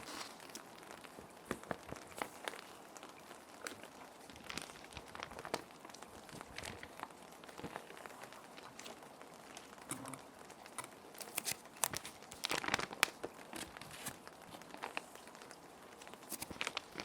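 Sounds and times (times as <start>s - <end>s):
plastic sheets crinkling: 0.0s - 17.0s
rain hissing: 0.0s - 17.0s.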